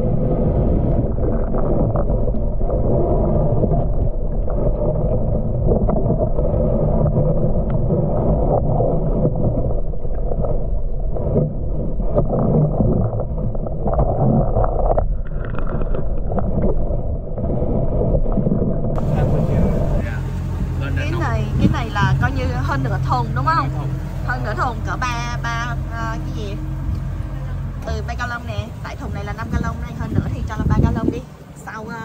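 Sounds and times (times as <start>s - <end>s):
underwater low rumble: 0.0s - 32.0s.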